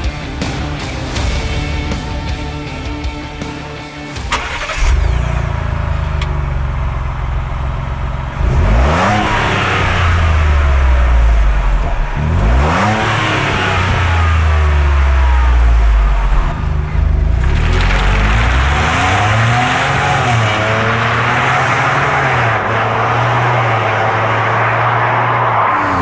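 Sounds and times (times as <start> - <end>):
engine accelerating through exhaust: 4.6 - 26.0.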